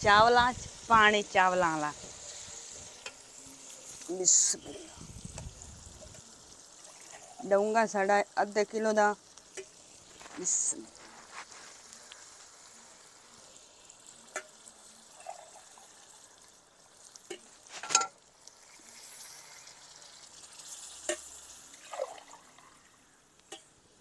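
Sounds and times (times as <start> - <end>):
water pouring: 0.0 - 8.0, 9.1 - 23.6
food sizzling in wok: 0.0 - 24.0.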